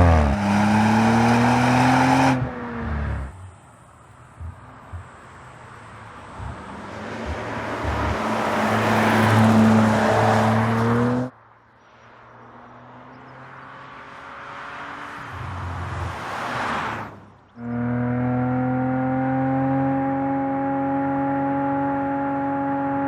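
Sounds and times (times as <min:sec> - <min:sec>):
car engine accelerating: 0:00.0 - 0:11.3, 0:13.7 - 0:23.0.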